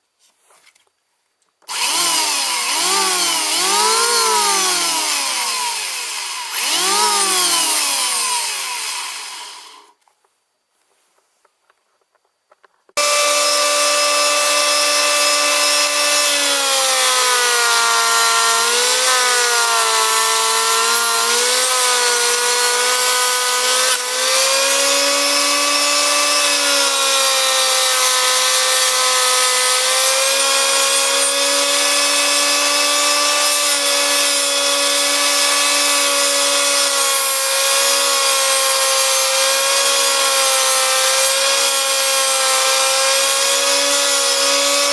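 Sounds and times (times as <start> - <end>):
electric planer whining: 1.7 - 10.0, 13.0 - 44.9.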